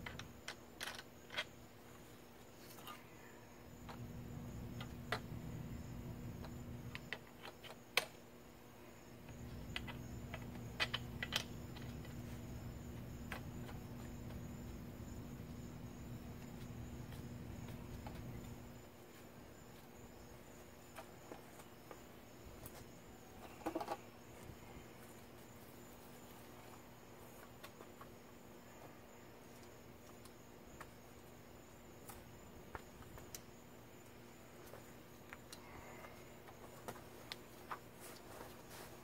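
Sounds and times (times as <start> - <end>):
faint high insect buzz: 0.0 - 39.0.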